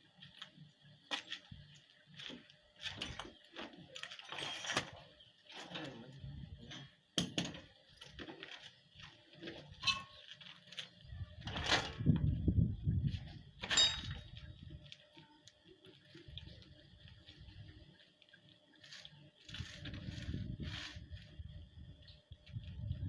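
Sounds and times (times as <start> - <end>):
faint high-pitched hum: 0.0 - 23.0.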